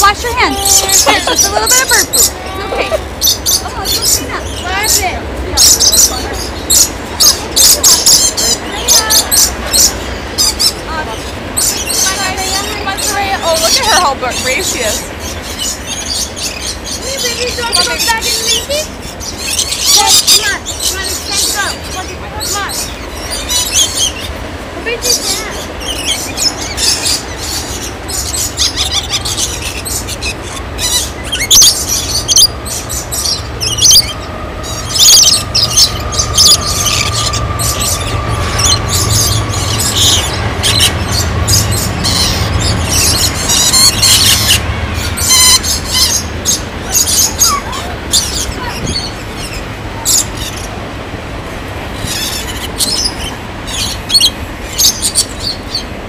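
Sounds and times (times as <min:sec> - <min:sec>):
birds screeching and chirping: 0:00.0 - 0:56.0
low hum: 0:00.0 - 0:56.0.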